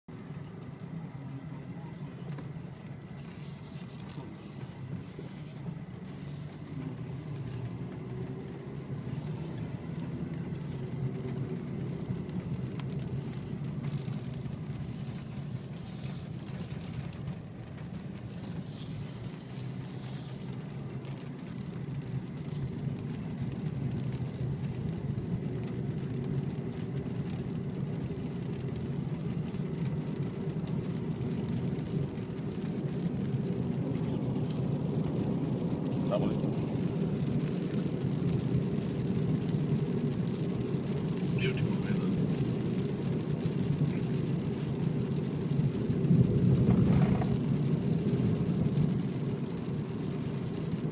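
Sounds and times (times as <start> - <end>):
vehicle rumble: 0.0 - 50.9.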